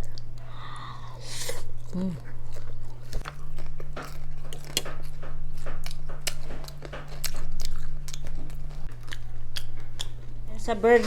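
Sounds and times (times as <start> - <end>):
crunching and chewing fried chicken: 0.0 - 10.7
low hum: 0.0 - 11.0.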